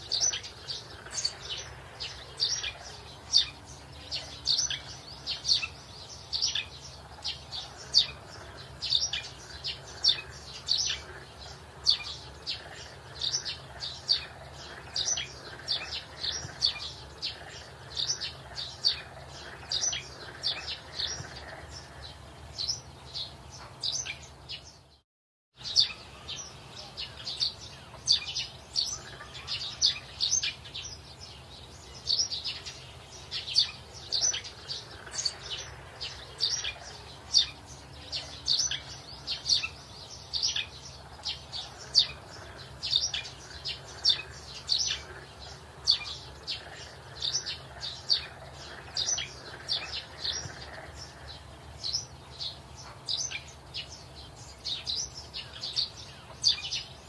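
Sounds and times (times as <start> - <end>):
small birds chirping: 0.0 - 25.0, 25.6 - 57.0.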